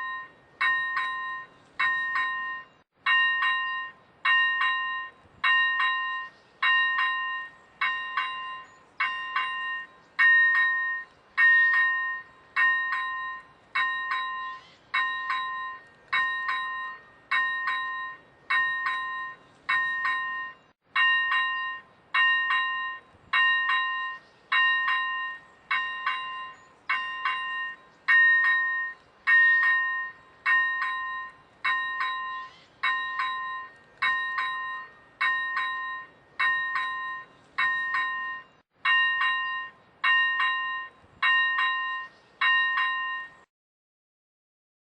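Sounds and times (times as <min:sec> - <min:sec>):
level crossing bell ringing: 0:00.0 - 0:43.5.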